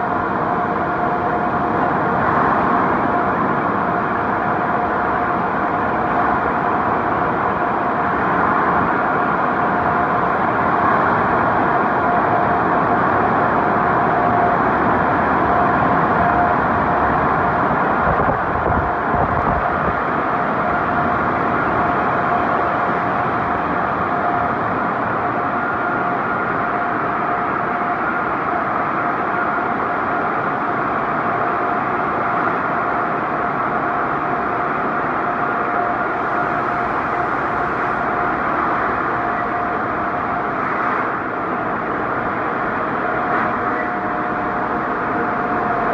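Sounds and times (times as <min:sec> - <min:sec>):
car wash machinery and water: 0:00.0 - 0:45.9
constant machine whine: 0:00.0 - 0:45.9.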